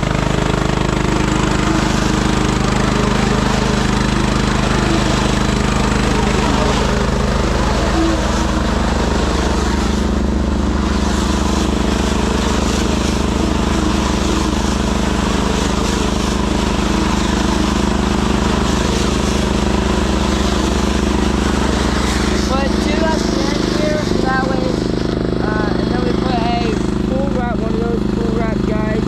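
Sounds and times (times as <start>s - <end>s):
farm machinery engine running: 0.0s - 29.0s.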